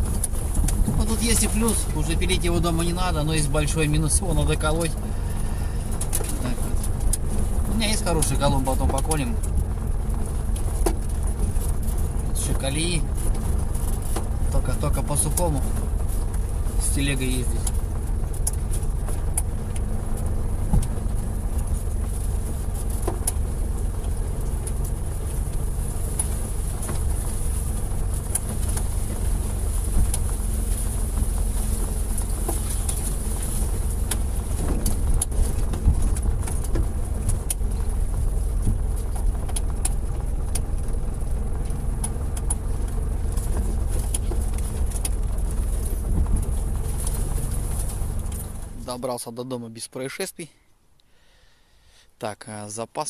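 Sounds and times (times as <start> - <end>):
car body rattling: 0.0 - 49.0
car engine rumbling under load: 0.0 - 53.0.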